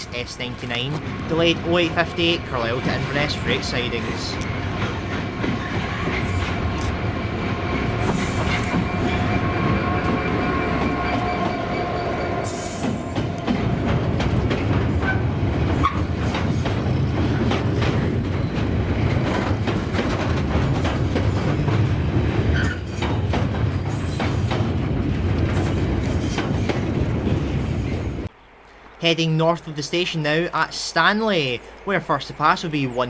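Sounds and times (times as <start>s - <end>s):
diesel locomotive engine: 0.0s - 28.3s
wheels rumbling on track: 0.0s - 33.0s.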